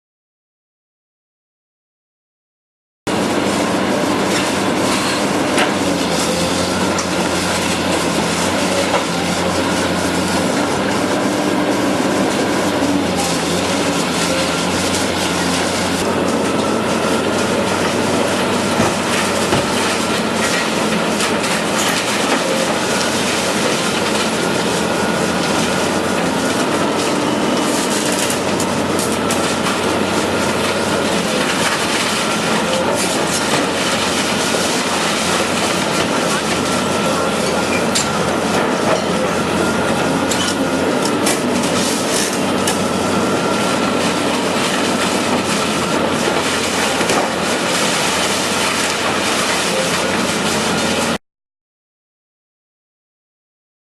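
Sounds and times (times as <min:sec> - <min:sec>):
excavator engine and hydraulic drone: 0:03.1 - 0:51.2.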